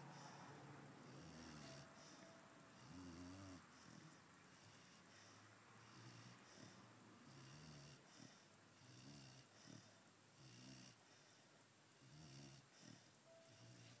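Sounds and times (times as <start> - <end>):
puppy snoring faintly: 0.0 - 14.0.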